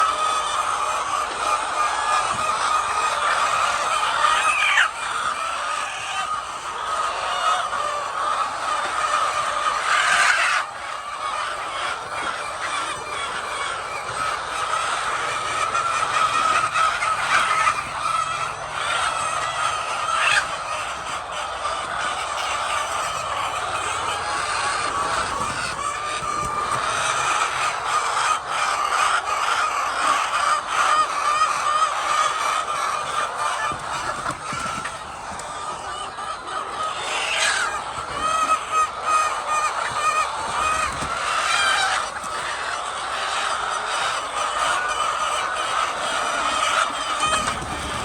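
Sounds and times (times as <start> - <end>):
hens clucking: 0.0 - 48.0.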